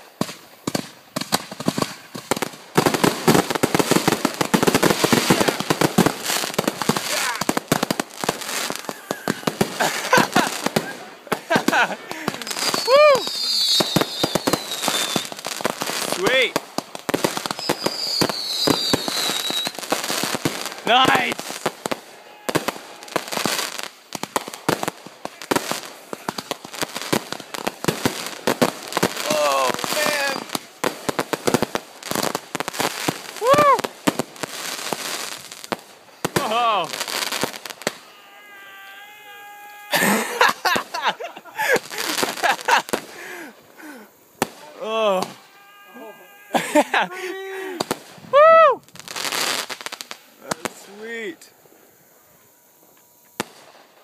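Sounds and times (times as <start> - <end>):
fireworks cracking and popping: 0.0 - 54.0.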